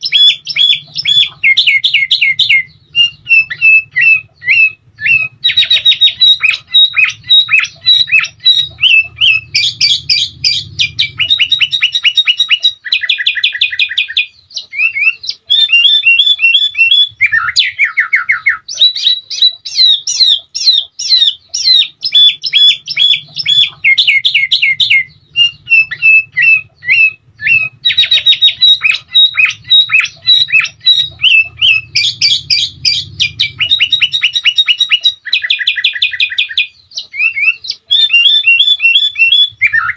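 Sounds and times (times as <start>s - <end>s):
bulbul singing: 0.0s - 39.9s
faint low hum: 0.0s - 39.9s.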